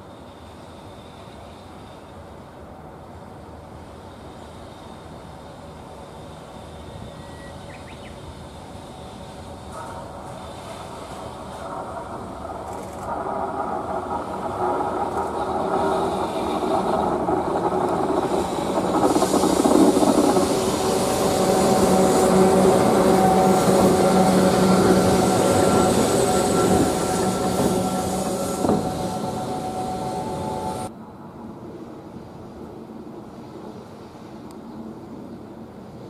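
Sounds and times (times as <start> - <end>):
train wheels on rails: 0.0 - 31.0
locomotive machinery humming: 0.1 - 30.9.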